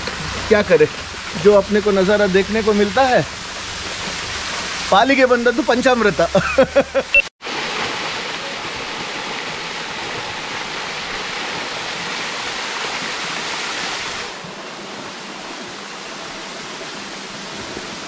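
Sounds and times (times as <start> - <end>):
small waterfall rushing: 0.0 - 18.0.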